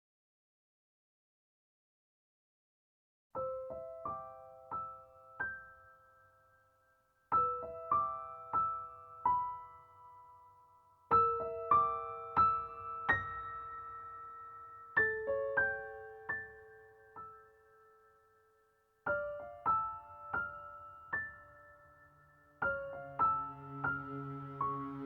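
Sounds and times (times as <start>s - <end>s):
slow solo piano music: 3.4s - 6.5s, 7.3s - 18.4s, 19.0s - 25.0s.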